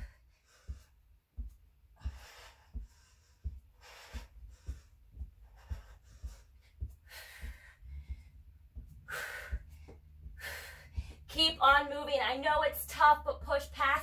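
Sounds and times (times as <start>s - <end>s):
woman breathing hard: 0.0s - 11.3s
feet thudding on exercise mat: 0.0s - 13.5s.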